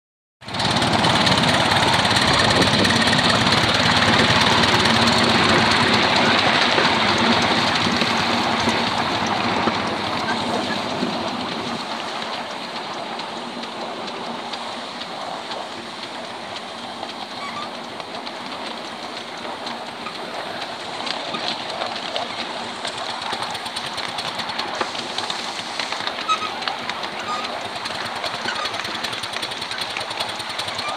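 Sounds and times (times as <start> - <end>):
steam locomotive exhaust beats: 0.4 - 30.9
sharp ticks: 0.8 - 30.9.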